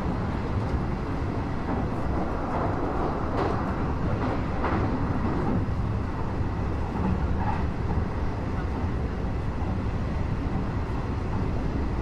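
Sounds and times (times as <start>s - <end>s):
train rattling: 0.0s - 12.0s
train running rumble: 0.0s - 12.0s.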